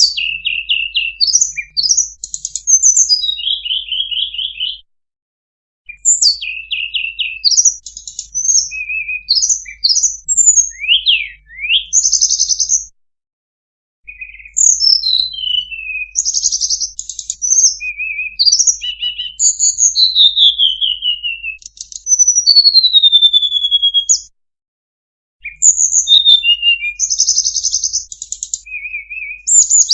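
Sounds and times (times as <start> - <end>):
bird song with whistles and trills: 0.0 - 4.9, 5.9 - 13.0, 14.0 - 24.4, 25.4 - 29.9.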